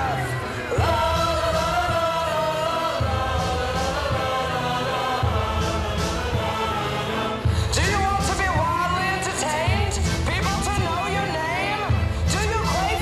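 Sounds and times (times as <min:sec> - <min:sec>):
stage music with pulsing bass: 0:00.0 - 0:13.0.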